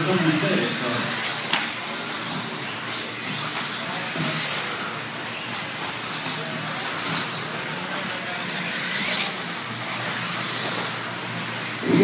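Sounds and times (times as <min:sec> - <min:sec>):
high-pitched whines of passing cars: 0:00.0 - 0:12.0.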